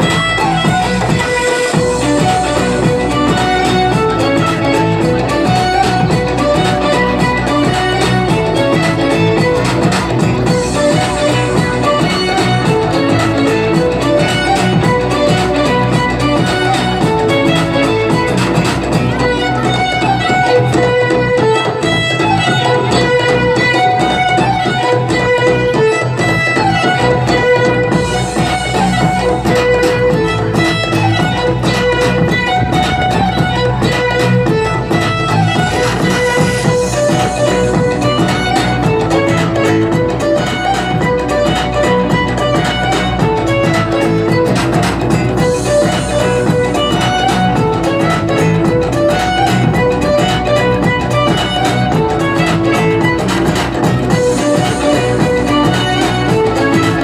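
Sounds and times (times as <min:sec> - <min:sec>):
guitar accompaniment: 0:00.0 - 0:57.0
steady beat: 0:00.0 - 0:57.0
violin melody: 0:00.0 - 0:57.0.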